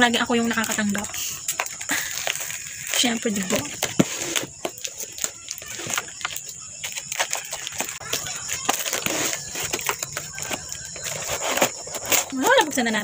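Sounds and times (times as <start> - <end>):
paper packaging being torn: 0.5 - 12.7.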